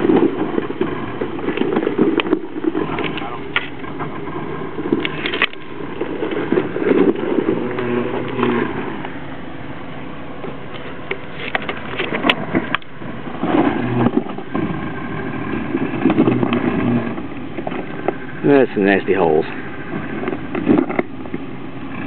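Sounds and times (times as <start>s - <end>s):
rocks clicking and clattering: 0.0s - 9.3s, 10.4s - 22.0s
engine revving unevenly: 0.0s - 10.7s, 12.2s - 22.0s
tires spinning on rock: 0.0s - 22.0s.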